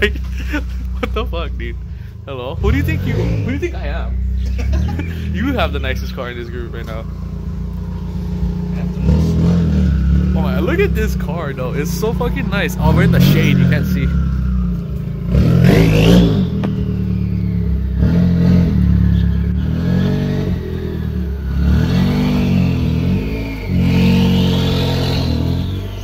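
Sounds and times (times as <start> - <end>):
car engine revving: 0.0 - 26.0
turbo whine: 3.6 - 26.0.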